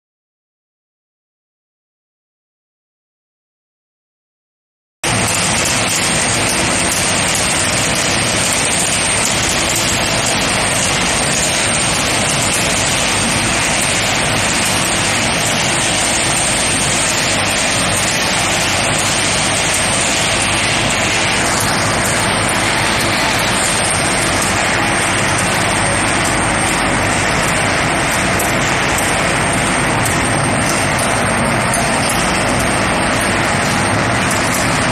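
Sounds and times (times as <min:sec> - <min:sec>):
machinery drone: 0:05.0 - 0:34.9
thin high-pitched whine: 0:05.1 - 0:34.9.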